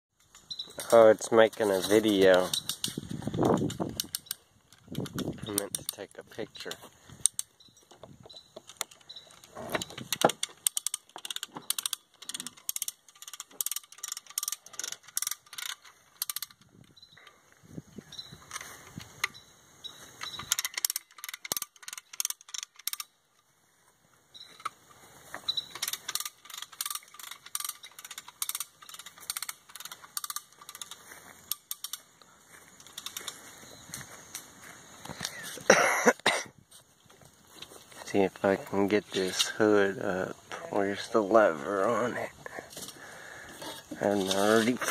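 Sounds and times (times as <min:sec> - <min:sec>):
small metallic clicks and rattles: 0:00.2 - 0:17.6, 0:18.2 - 0:19.4, 0:20.0 - 0:23.5, 0:24.4 - 0:35.8, 0:37.1 - 0:44.9.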